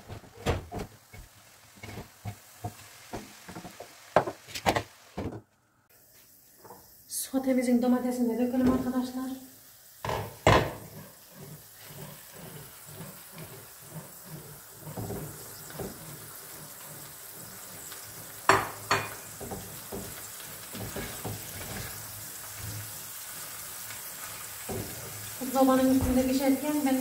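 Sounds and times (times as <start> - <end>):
sauce sizzling in a pan: 0.8 - 5.2, 6.0 - 27.0.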